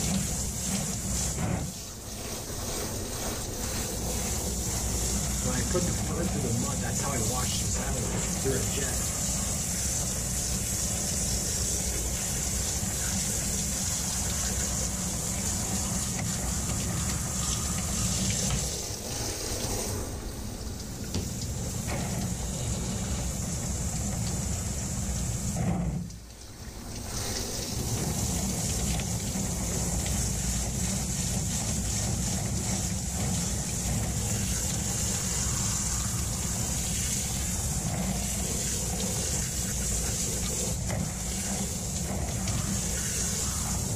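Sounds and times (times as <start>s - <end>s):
shower head spraying water: 0.0s - 43.9s.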